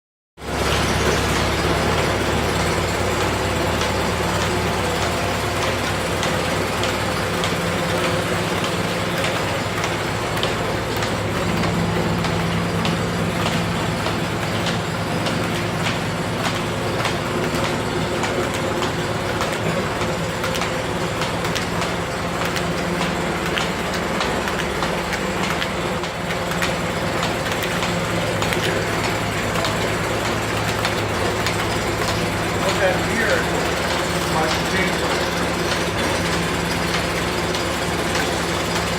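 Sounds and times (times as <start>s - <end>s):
planer machine humming and crackling: 0.4s - 38.9s.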